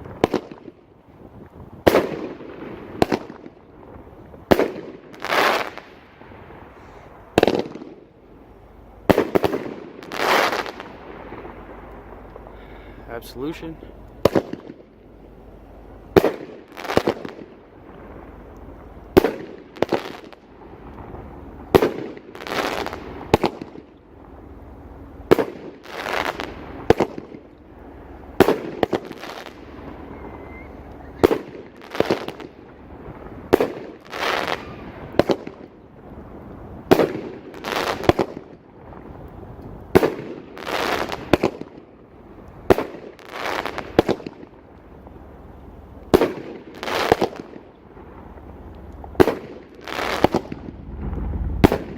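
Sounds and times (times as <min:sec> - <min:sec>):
firework aerial bursts: 0:00.0 - 0:45.4, 0:46.1 - 0:51.9.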